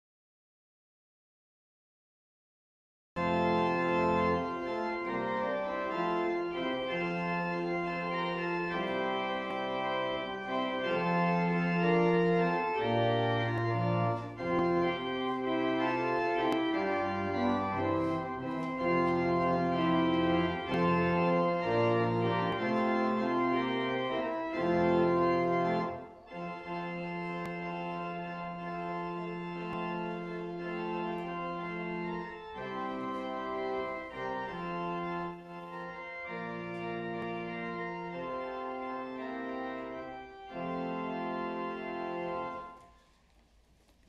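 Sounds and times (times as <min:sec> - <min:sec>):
organ playing sustained chords: 0:03.2 - 0:42.8.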